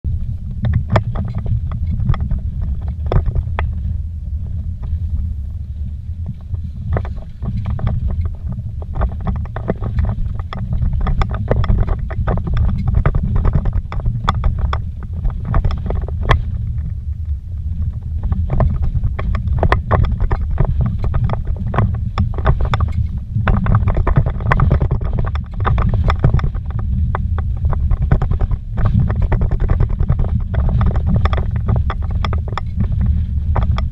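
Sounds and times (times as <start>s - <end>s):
gravel rattling and knocking: 0.0s - 33.9s
vehicle engine and tyres rumbling: 0.0s - 33.9s.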